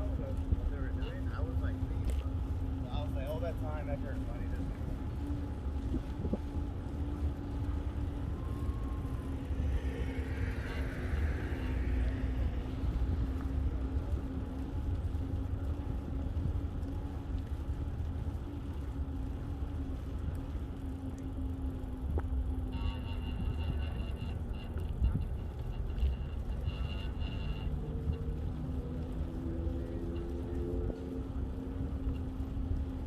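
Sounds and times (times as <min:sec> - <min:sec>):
low motor hum: 0:00.0 - 0:33.0
low rumble: 0:00.0 - 0:33.0.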